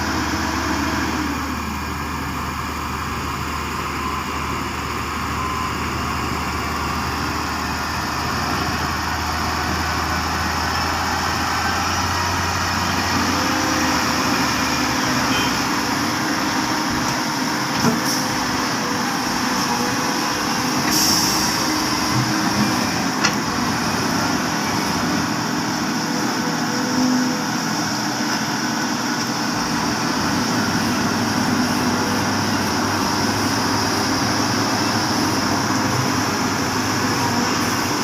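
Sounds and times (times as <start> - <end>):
diesel machinery running: 0.0 - 38.0.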